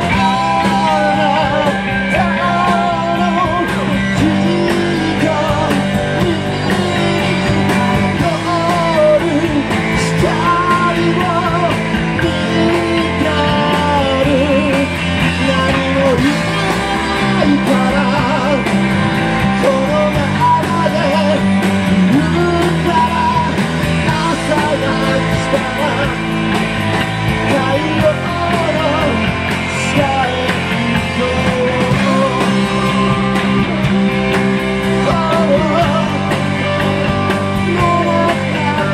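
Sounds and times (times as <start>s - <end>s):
bass and drums: 0.0s - 38.9s
man singing: 0.0s - 38.9s
strummed electric guitar: 0.0s - 38.9s.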